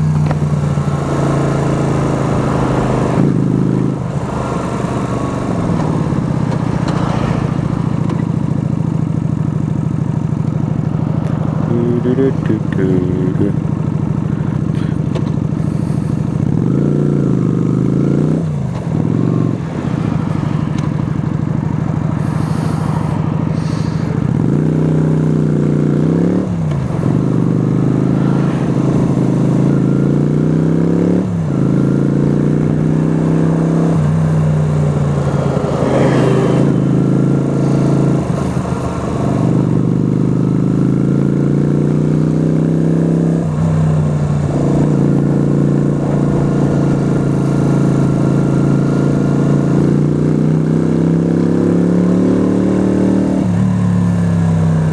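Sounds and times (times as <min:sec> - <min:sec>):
motorcycle engine shifting gears: 0:00.0 - 0:54.9.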